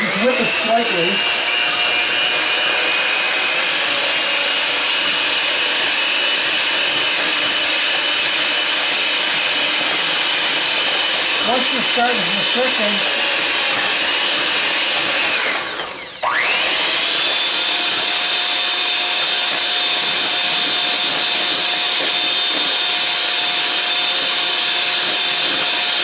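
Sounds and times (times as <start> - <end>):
electric hand mixer whirring: 0.0 - 26.0.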